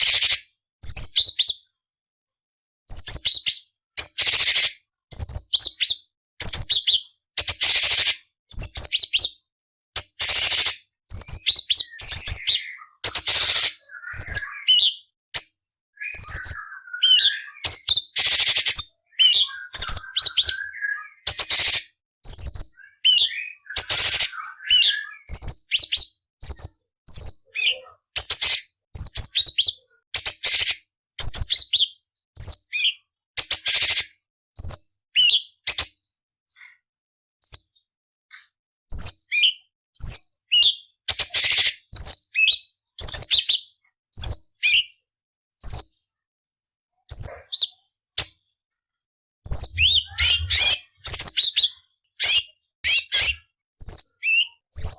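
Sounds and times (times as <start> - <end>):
bird singing chirps and whistles: 0.0 - 1.7, 2.9 - 9.4, 10.0 - 35.9, 37.4 - 37.8, 38.9 - 45.0, 49.5 - 54.9.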